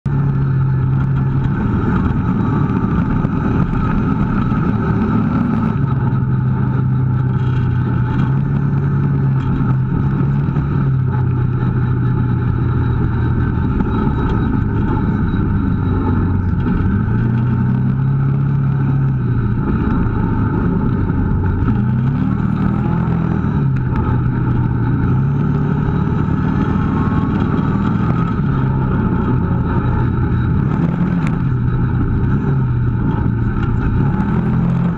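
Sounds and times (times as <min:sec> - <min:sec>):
quad bike engine revving: 0:00.1 - 0:34.9.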